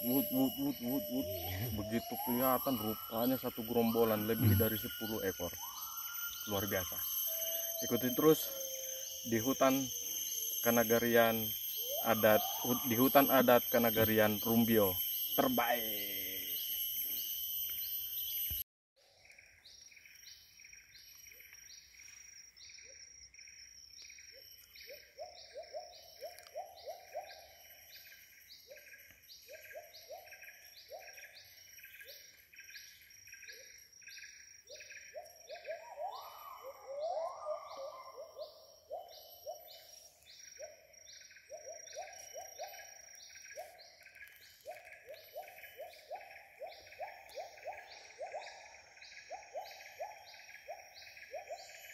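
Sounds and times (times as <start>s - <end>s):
high pulsing insect chorus: 0.0s - 18.6s, 19.2s - 51.9s.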